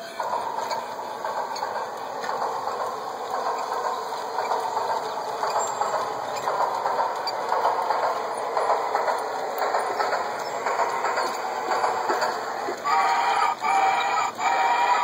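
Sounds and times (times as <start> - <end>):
model train motors whirring: 0.0 - 15.0
wheels clicking over rail joints: 0.0 - 15.0.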